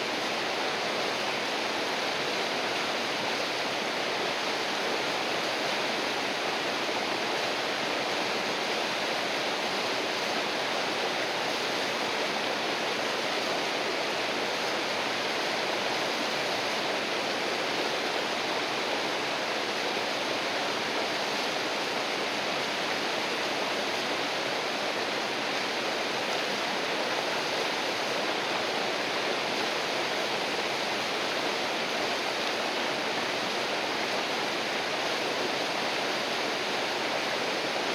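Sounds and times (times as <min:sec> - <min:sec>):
river water rushing over rocks: 0:00.0 - 0:37.9.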